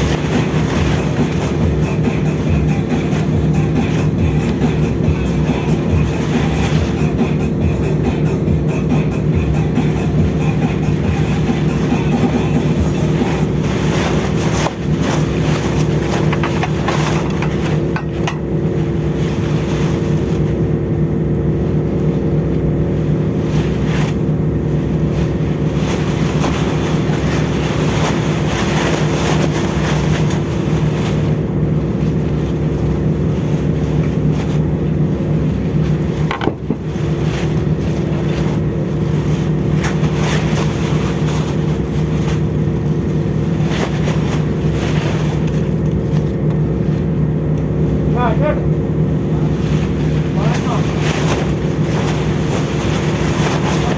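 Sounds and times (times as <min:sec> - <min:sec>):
ship machinery drone: 0:00.0 - 0:53.9.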